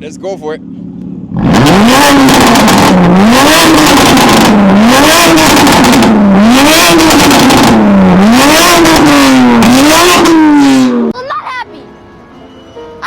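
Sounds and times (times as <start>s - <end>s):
car engine revving: 0.6s - 11.2s.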